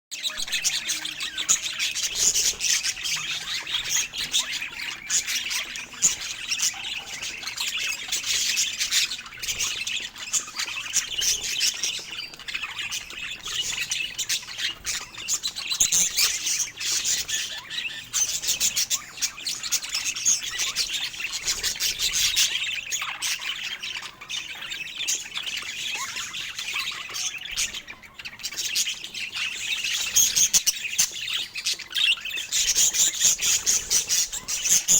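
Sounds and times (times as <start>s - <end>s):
budgerigars chattering: 0.2s - 34.9s.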